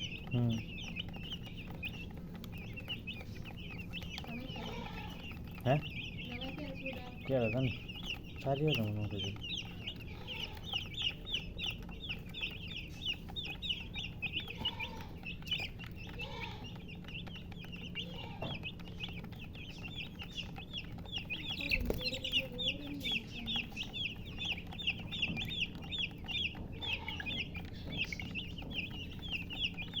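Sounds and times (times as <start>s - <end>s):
chicks peeping: 0.0s - 30.0s
hen clucking: 0.0s - 30.0s.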